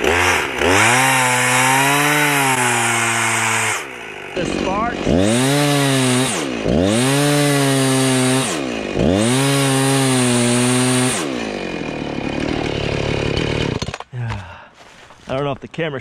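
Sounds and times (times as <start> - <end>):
chainsaw revving: 0.0 - 14.1
stone grinding chainsaw chain: 0.0 - 14.1.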